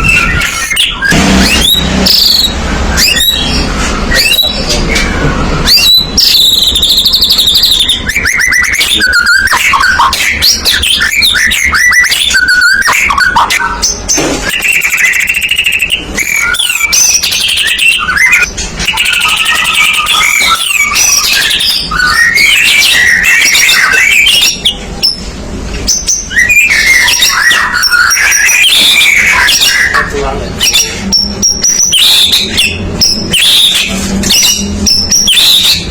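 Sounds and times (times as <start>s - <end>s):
songbird whistling and trilling: 0.0s - 25.2s, 25.8s - 35.9s.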